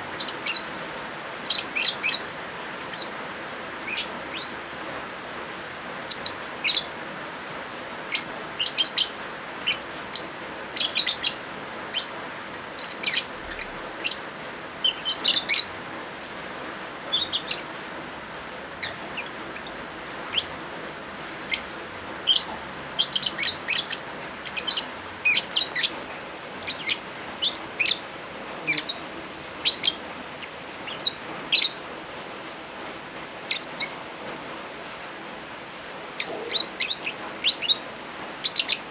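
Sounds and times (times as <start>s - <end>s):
lovebirds chirping: 0.0s - 31.9s, 33.4s - 34.2s, 36.0s - 38.9s
rain hiss: 0.0s - 38.9s.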